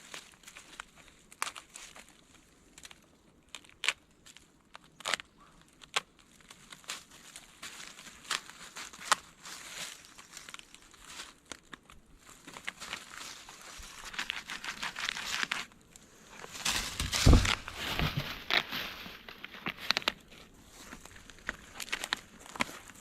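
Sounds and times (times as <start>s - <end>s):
rustling and crinkling: 0.0s - 23.0s.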